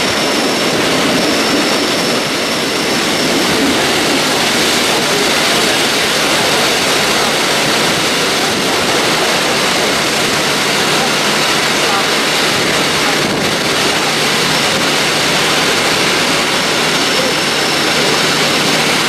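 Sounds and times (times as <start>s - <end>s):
moving train roaring: 0.0s - 19.0s
wind rushing: 0.0s - 19.0s.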